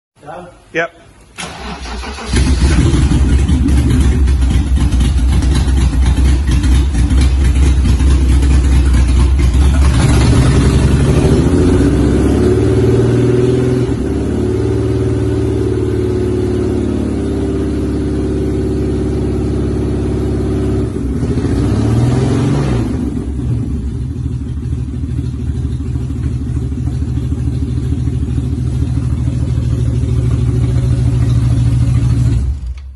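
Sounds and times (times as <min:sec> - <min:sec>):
car engine idling and revving: 0:01.5 - 0:32.9.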